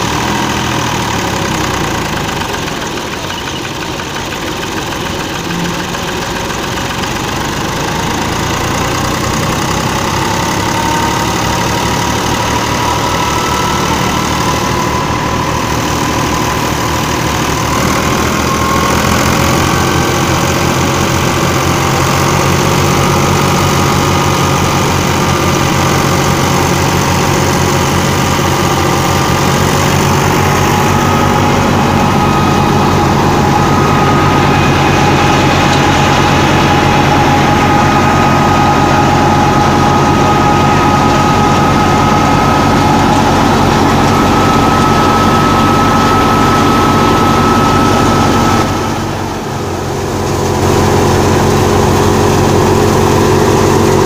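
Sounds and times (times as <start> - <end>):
tractor diesel engine running: 0.0 - 54.0
faint whine rising in pitch: 8.5 - 54.0.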